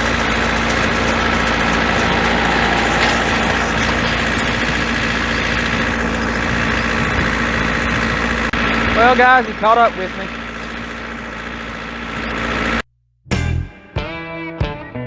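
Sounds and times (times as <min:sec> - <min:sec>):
tractor engine running: 0:00.0 - 0:12.8.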